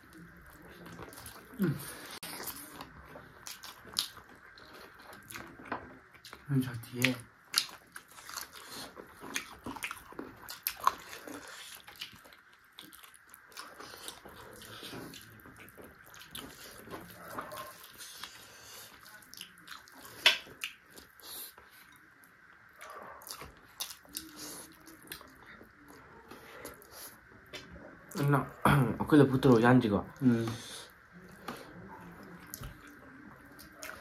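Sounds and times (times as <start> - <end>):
chewing and gnawing bones: 0.0 - 22.0, 22.7 - 28.3, 31.2 - 34.0.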